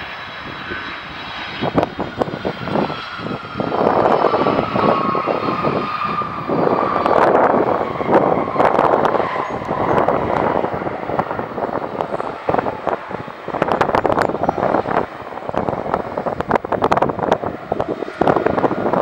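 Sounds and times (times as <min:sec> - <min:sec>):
landing jet engine roar: 0:00.0 - 0:19.0
wind buffeting microphone: 0:00.0 - 0:19.0.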